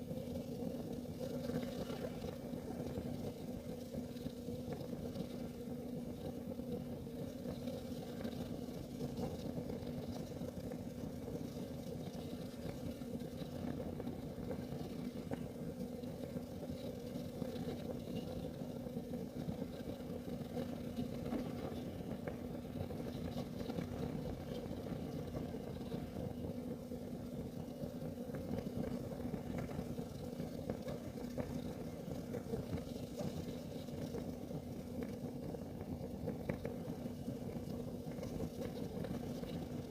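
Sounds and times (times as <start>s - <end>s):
faint crackles: 0.0s - 39.9s
kerosene heater rumbling: 0.0s - 39.9s.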